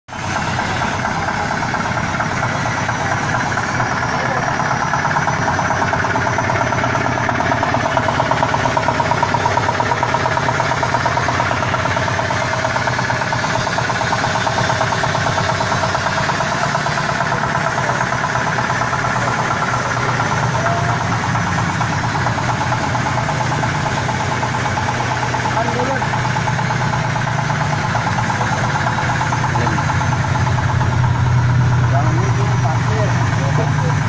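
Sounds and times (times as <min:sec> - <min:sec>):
diesel engine running: 0:00.1 - 0:34.0.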